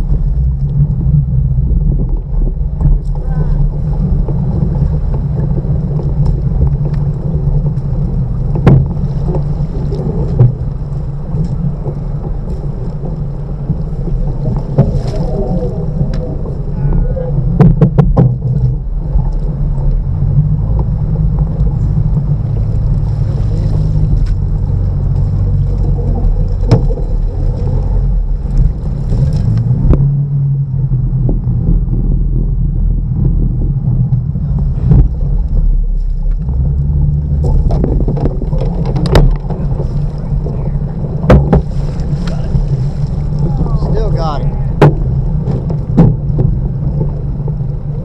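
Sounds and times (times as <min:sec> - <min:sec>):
boat motor droning: 0:00.0 - 0:48.0.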